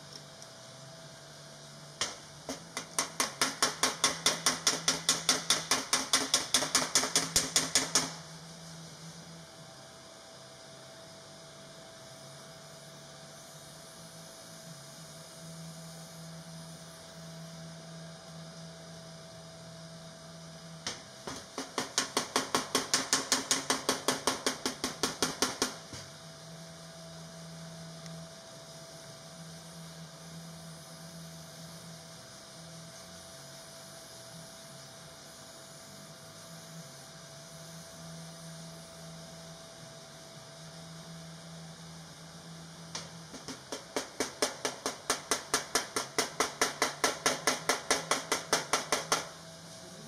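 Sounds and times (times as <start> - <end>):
faint hum: 8.1 - 50.0.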